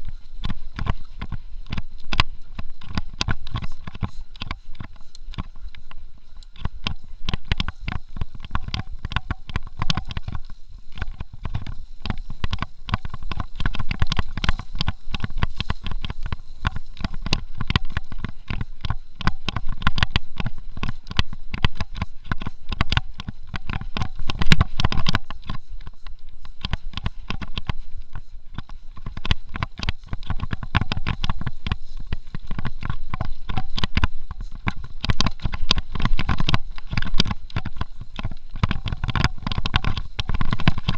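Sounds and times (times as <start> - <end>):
bike clattering and rattling: 0.0 - 40.9.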